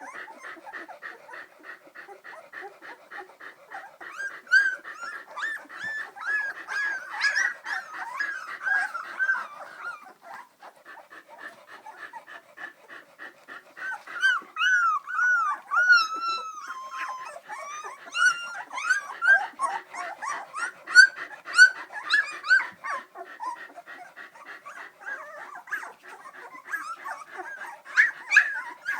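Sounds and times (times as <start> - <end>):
puppies whimpering and squeaking: 0.0 - 1.6, 2.2 - 12.2, 13.8 - 28.9.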